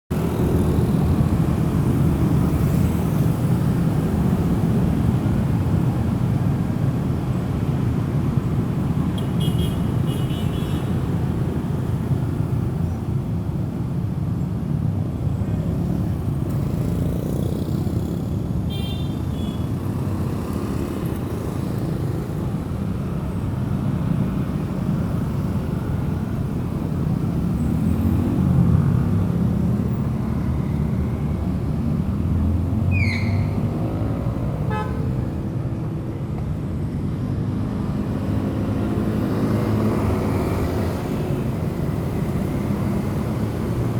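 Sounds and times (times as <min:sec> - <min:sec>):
road traffic rumble: 0:00.1 - 0:43.9.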